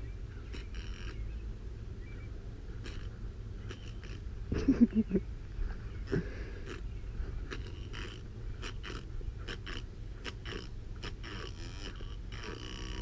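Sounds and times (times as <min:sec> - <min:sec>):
low drive motor hum: 0:00.0 - 0:13.0.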